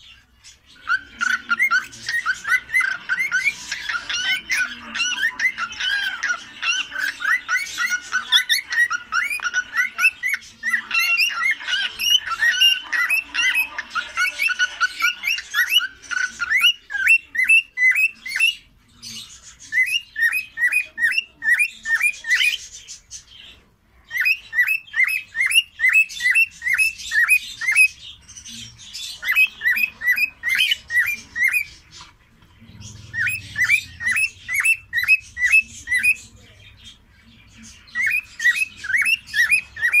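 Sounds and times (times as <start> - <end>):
cockatiels whistling: 0.7 - 22.7, 23.4 - 31.8, 32.8 - 36.5, 37.6 - 40.0.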